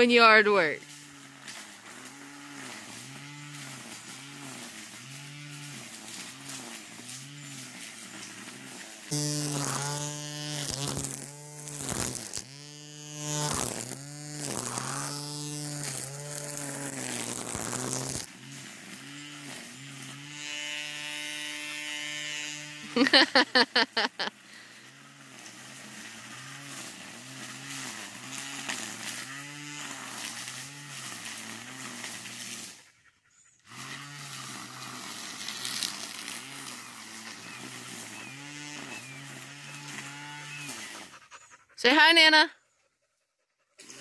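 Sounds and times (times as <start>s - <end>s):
string trimmer motor whine: 0.0s - 32.9s, 33.6s - 41.5s.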